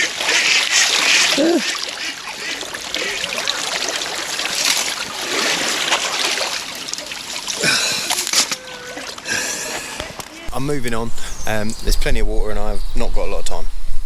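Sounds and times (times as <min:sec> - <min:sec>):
water splashing and trickling: 0:00.0 - 0:13.6.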